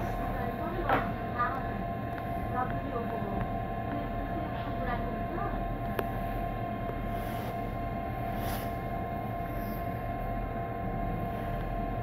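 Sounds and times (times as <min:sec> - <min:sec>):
low train rumble: 0:00.0 - 0:12.0
train equipment hum: 0:00.0 - 0:12.0.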